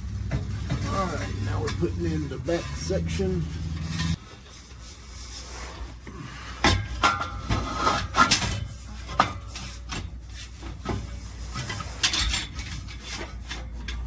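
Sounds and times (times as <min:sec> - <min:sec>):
metal pipe clanking: 0:00.0 - 0:04.2, 0:06.6 - 0:14.0
metal scraping and rubbing: 0:00.0 - 0:14.0.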